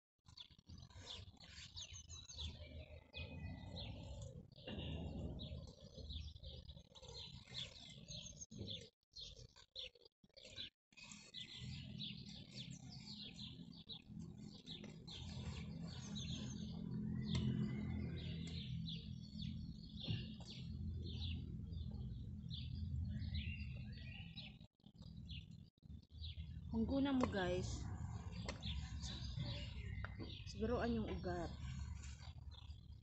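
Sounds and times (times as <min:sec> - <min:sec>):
small birds chirping: 0:00.2 - 0:33.0.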